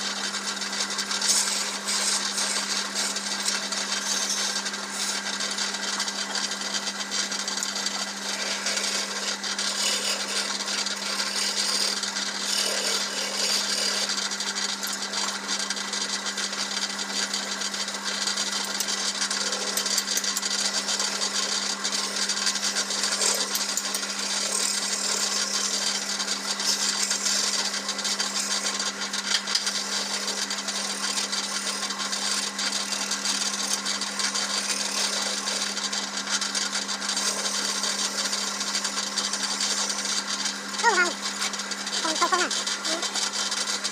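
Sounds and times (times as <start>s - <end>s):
tool hissing on spinning wood: 0.0s - 43.9s
wood lathe humming: 0.0s - 43.9s.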